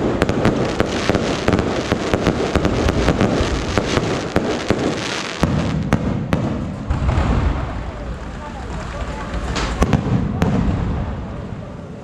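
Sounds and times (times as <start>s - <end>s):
fireworks cracking: 0.0s - 12.0s
fireworks rumble: 0.0s - 12.0s.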